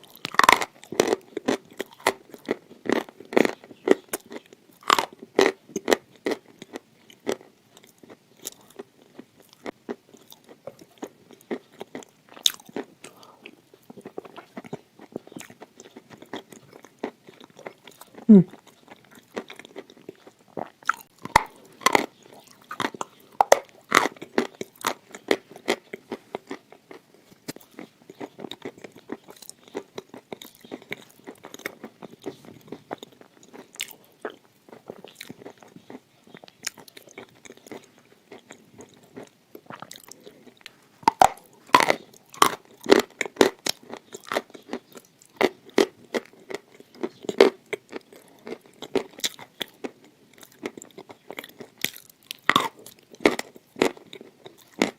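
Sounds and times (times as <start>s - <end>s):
crunchy biting and chewing: 0.0s - 54.9s.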